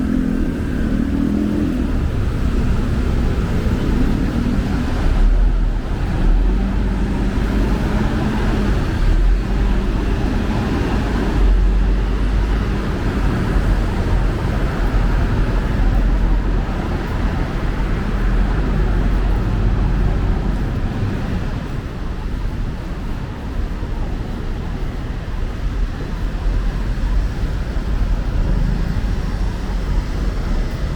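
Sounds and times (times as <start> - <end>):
cars passing: 0.0 - 30.9.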